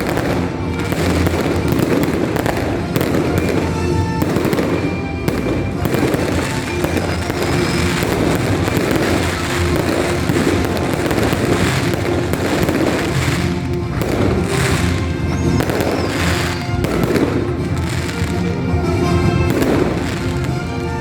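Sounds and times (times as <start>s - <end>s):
fireworks crackling and popping: 0.0s - 21.0s
music playing: 0.0s - 21.0s.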